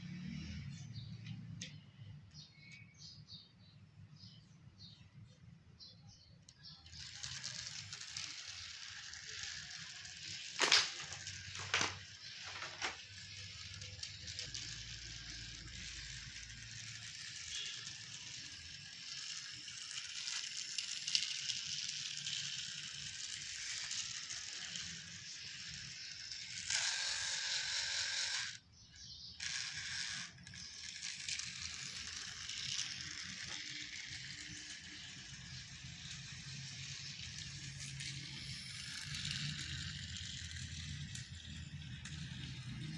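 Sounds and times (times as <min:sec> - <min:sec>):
toy train motor whirring: 0:00.0 - 0:03.5, 0:06.0 - 0:42.9.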